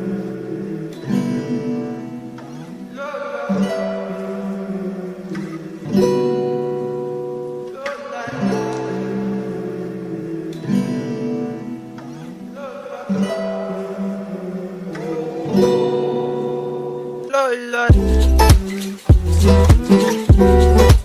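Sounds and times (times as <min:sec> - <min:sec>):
guitar chords strummed: 0:00.0 - 0:21.0.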